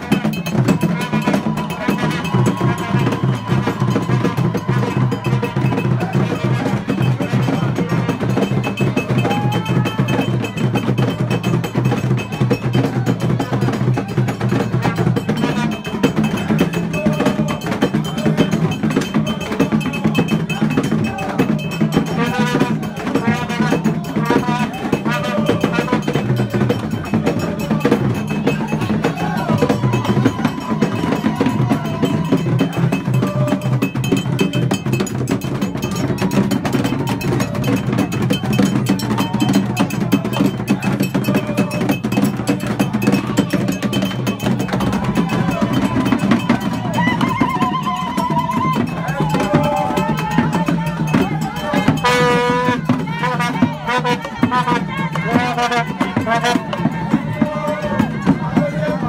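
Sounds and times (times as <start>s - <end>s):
percussion music with drums and bells: 0.0s - 59.0s
voices: 0.0s - 59.0s.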